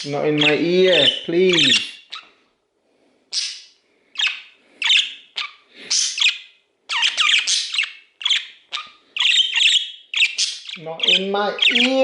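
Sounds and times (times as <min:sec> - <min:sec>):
budgerigar chattering: 0:00.0 - 0:02.3, 0:03.4 - 0:12.0.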